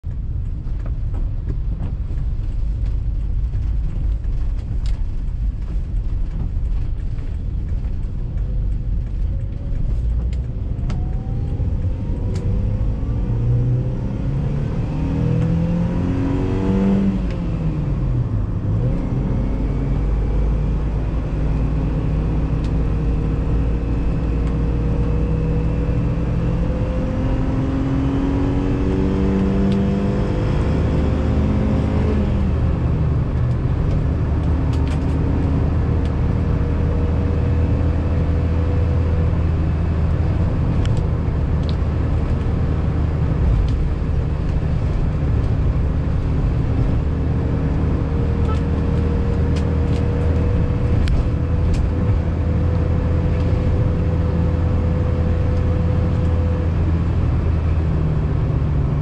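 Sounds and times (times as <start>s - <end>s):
car engine revving: 7.2s - 59.0s.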